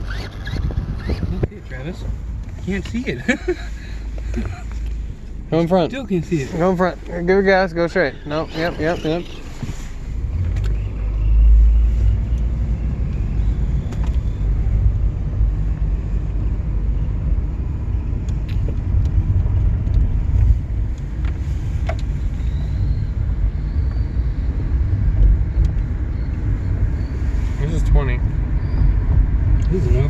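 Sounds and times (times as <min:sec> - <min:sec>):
car road and wind rumble: 0:00.0 - 0:30.0.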